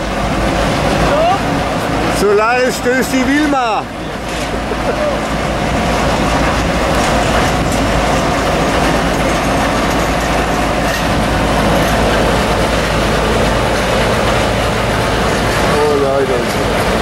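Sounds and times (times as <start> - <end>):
ship engine humming: 0.0 - 17.0.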